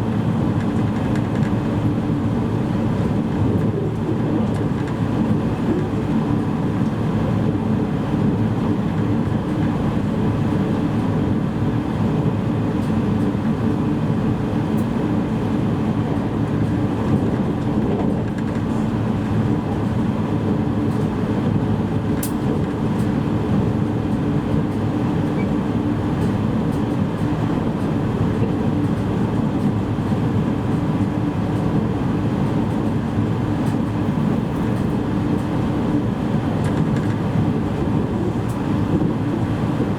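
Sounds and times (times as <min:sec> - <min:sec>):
train rumble from inside car: 0:00.0 - 0:39.9.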